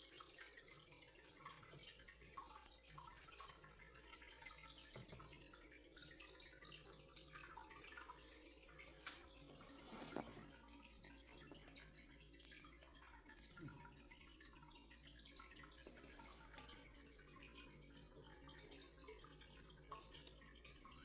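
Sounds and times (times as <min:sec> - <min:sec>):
water dripping and trickling: 0:00.0 - 0:21.0.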